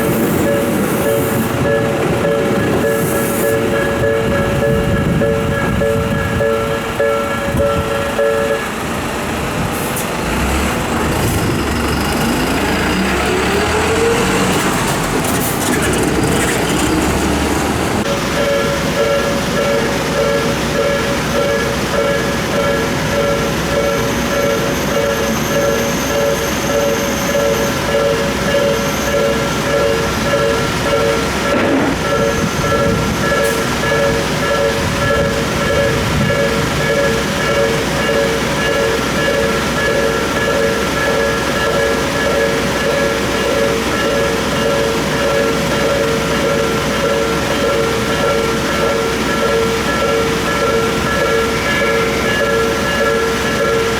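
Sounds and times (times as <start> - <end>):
level-crossing warning bell: 0.0 - 53.9.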